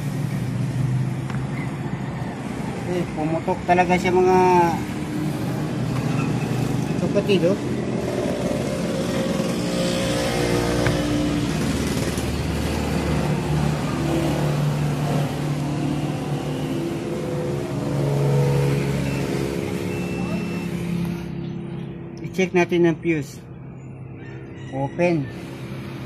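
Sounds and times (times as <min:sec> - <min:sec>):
engine running steadily: 0:00.0 - 0:23.8.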